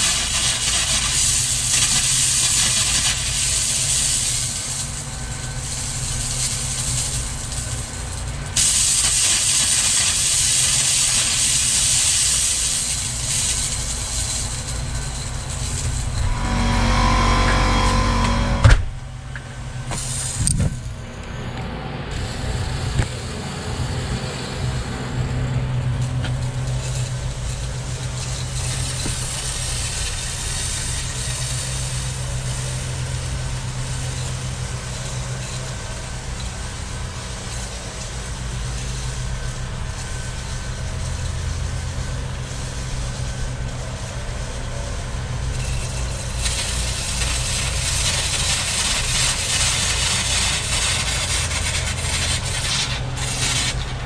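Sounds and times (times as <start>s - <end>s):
air hissing: 0.0s - 21.0s, 22.1s - 54.0s
air compressor droning: 0.0s - 54.0s.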